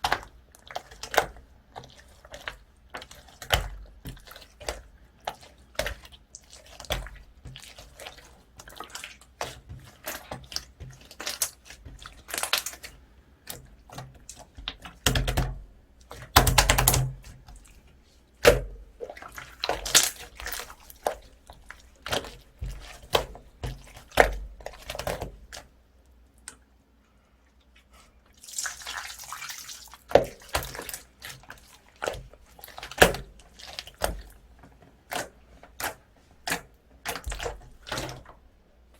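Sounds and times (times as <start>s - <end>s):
slime squelching and popping: 0.0s - 17.8s, 18.4s - 25.7s, 28.4s - 38.3s.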